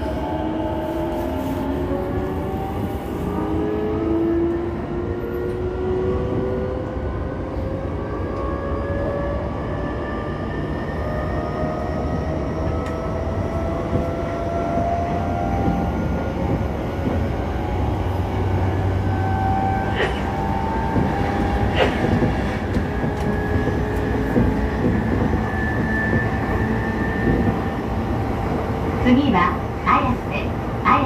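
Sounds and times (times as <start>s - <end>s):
wheels rumbling on rails: 0.0s - 31.0s.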